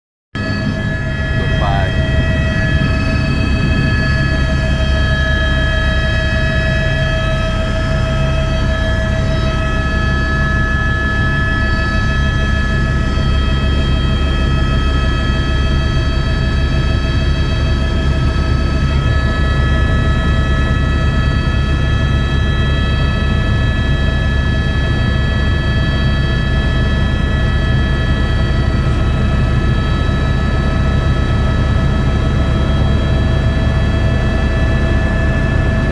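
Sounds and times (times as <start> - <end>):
helicopter engine and rotor drone: 0.4 - 35.9
high-pitched turbine whine: 0.4 - 35.9.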